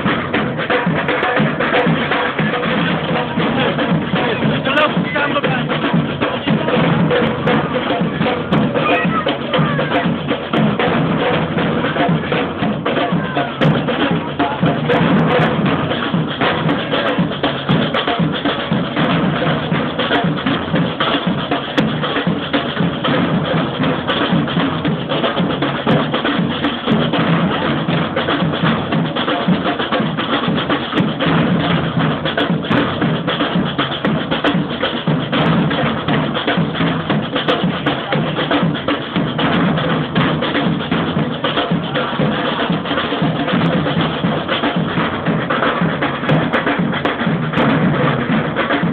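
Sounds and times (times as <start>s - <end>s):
deep bass drum beats: 0.0s - 48.9s
samba percussion band drumming: 0.0s - 48.9s.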